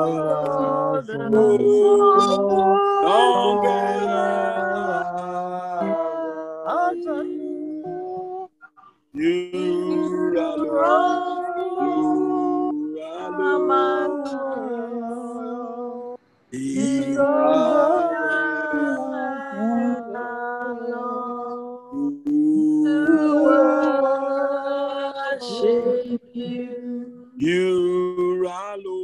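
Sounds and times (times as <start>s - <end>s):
people singing worship song: 0.0s - 8.5s, 9.2s - 28.3s.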